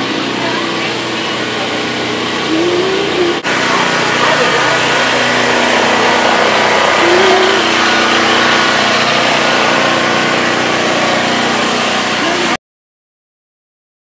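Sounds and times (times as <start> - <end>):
engine running: 0.0 - 12.6.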